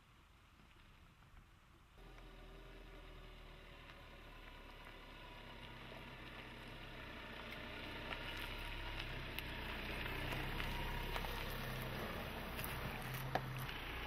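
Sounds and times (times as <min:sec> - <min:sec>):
diesel engine running at low revs: 0:02.0 - 0:14.0.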